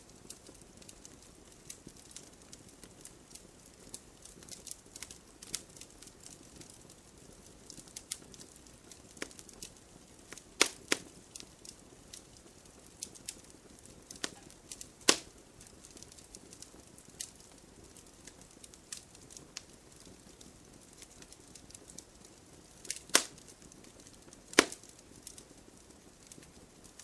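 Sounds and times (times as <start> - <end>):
wood fire crackling and hissing: 0.0 - 27.0.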